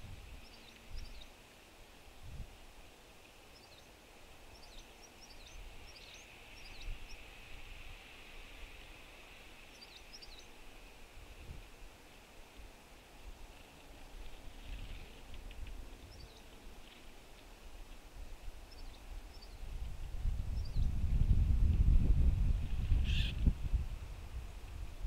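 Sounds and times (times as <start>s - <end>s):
songbirds chip notes: 0.0s - 1.9s, 3.0s - 21.0s, 22.8s - 23.5s
faint low wind rumble: 0.0s - 25.0s.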